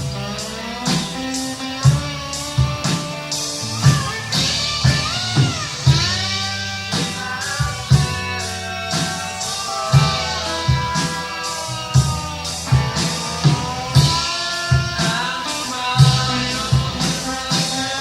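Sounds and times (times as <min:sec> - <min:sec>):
bass guitar: 0:00.0 - 0:18.0
electric guitar bending notes: 0:00.0 - 0:18.0
slow drum beat: 0:00.0 - 0:18.0.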